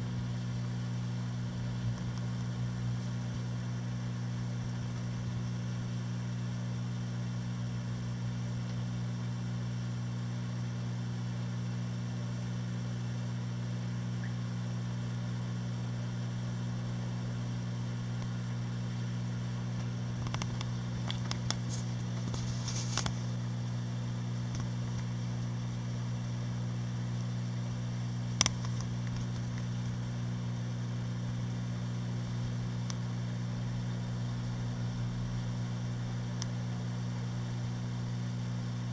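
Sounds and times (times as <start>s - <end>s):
aquarium pumps and fans humming: 0.0s - 38.9s.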